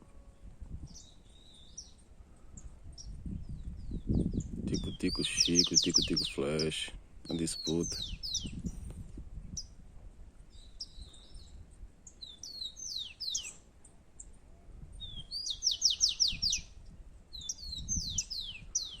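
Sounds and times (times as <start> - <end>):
sparrows whistling songs: 0.8 - 9.8, 10.5 - 19.0.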